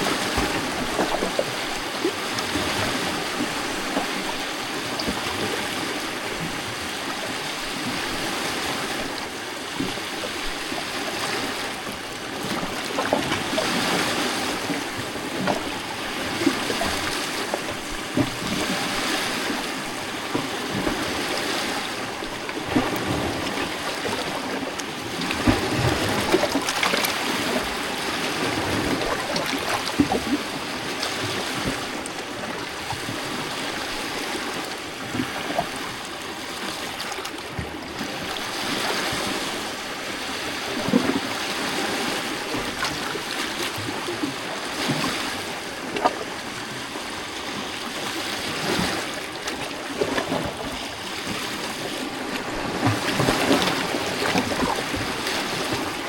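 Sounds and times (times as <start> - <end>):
small water splashes: 0.0 - 39.7, 40.4 - 56.0
gurgling water: 0.0 - 56.0
lake waves lapping on rocks: 0.0 - 56.0.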